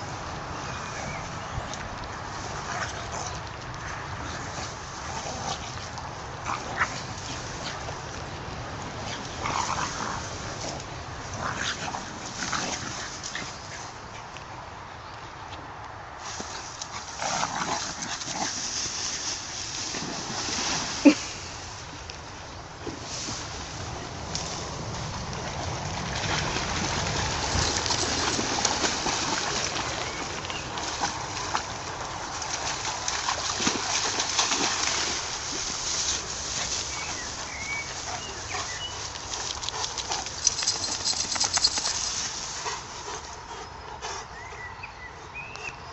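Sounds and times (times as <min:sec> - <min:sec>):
grass rustling and crackling: 0:00.0 - 0:15.2, 0:15.8 - 0:43.4.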